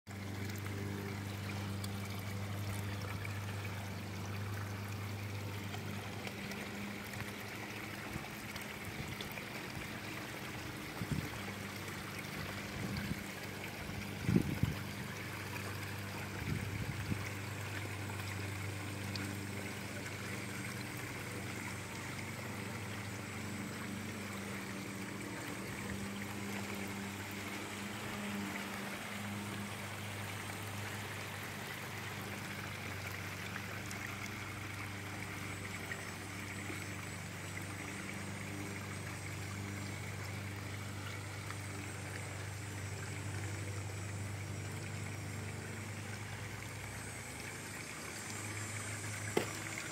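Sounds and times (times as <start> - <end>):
low steady hum: 0.1 - 49.9
waterfall trickling and splashing: 0.1 - 49.9.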